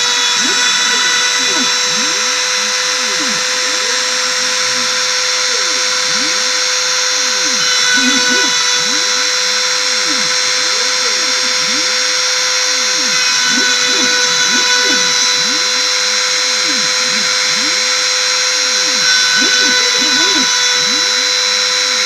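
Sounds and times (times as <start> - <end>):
spindle high whine: 0.0 - 22.0
stepper motors singing: 0.0 - 22.0.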